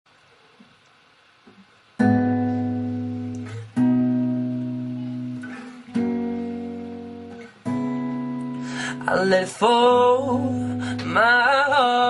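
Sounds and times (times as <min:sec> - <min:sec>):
acoustic guitar strumming chords: 0:02.0 - 0:12.0.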